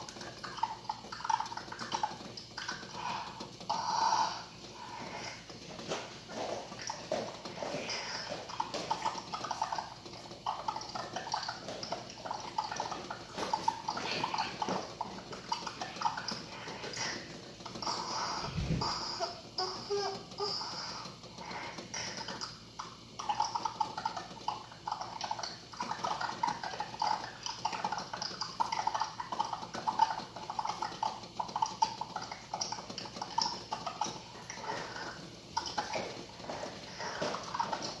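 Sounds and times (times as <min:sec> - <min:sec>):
eggs rattling in boiling pot: 0:00.0 - 0:38.0.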